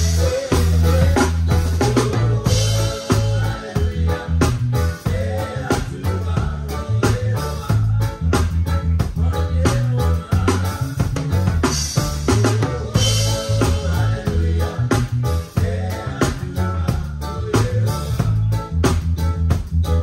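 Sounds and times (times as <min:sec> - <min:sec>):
bass guitar line: 0:00.0 - 0:20.0
live band playing: 0:00.0 - 0:20.0.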